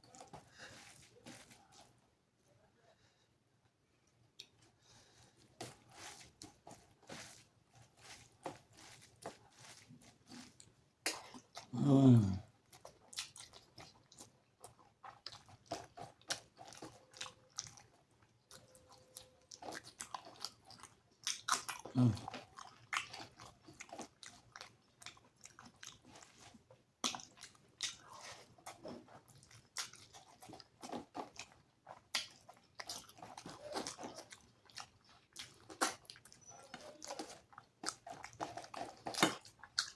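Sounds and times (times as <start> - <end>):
wet chewing and mouth smacks: 0.0 - 2.0, 4.0 - 11.8, 12.4 - 39.9.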